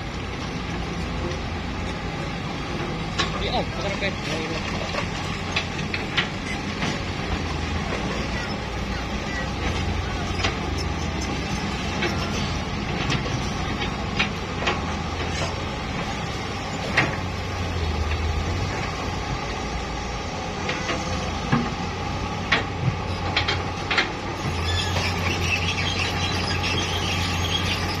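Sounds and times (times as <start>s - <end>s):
truck engine humming: 0.0s - 28.0s.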